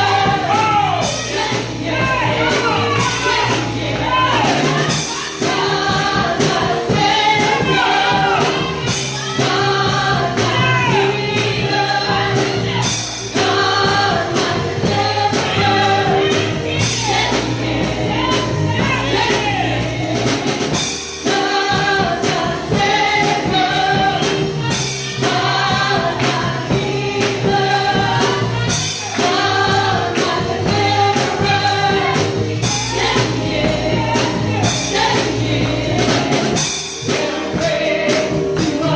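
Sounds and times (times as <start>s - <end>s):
band with steady beat: 0.0s - 38.9s
choir singing: 0.0s - 38.9s.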